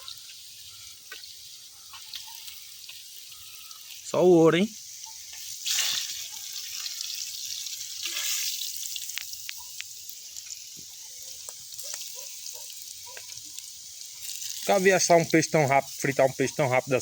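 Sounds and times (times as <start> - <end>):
fish sizzling in hot oil: 0.0 - 17.0
oil popping and crackling: 0.0 - 17.0.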